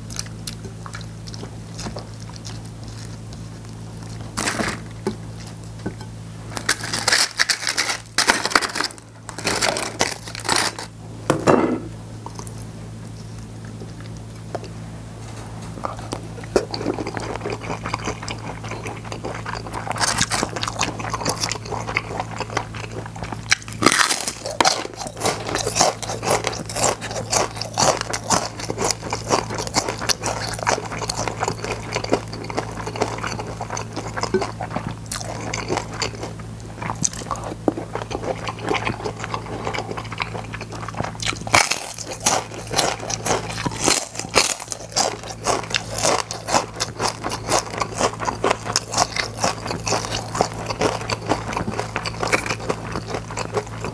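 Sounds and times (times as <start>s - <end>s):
crunching and chewing chips: 0.0s - 11.0s, 12.3s - 53.9s.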